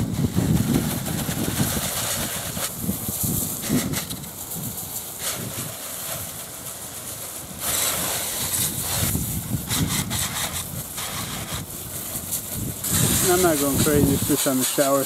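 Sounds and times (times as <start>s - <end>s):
wind rumble on microphone: 0.0s - 14.5s
hose spraying water: 0.0s - 15.0s.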